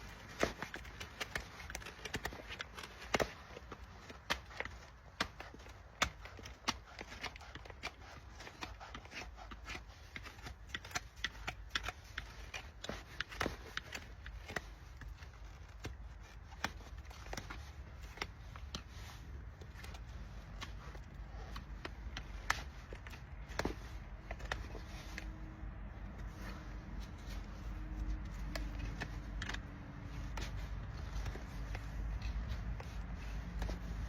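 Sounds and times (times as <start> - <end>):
hoof trimming clicks and scrapes: 0.0 - 34.0.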